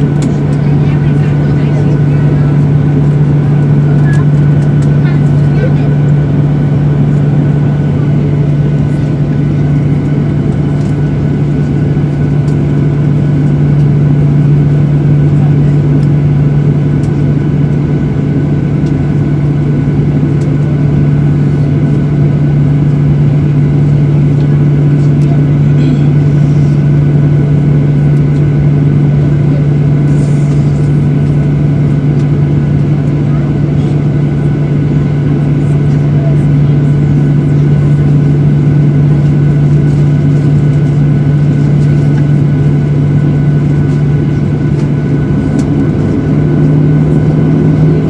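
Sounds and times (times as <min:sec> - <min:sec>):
cabin air noise: 0:00.0 - 0:48.0
jet engine hum: 0:00.0 - 0:48.0.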